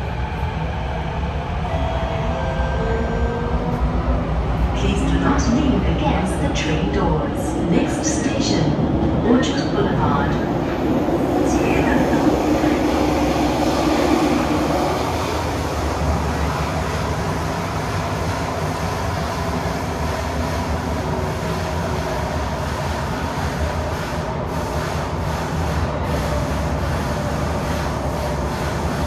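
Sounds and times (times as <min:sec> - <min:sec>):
train rumble and hiss: 0:00.0 - 0:29.0.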